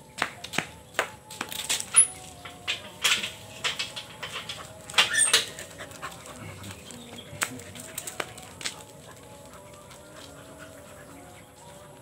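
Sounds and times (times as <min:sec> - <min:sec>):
dogs scuffing and tapping: 0:00.1 - 0:12.0.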